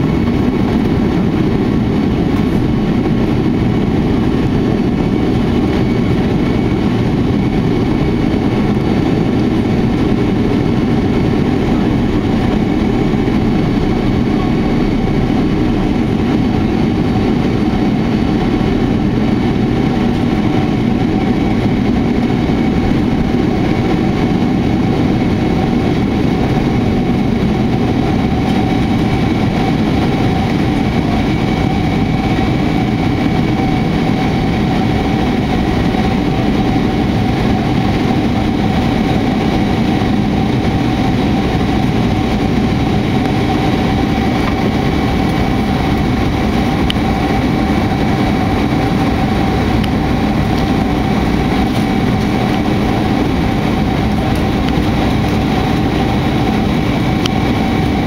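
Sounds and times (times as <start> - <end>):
jet engines at takeoff thrust: 0.0 - 58.0.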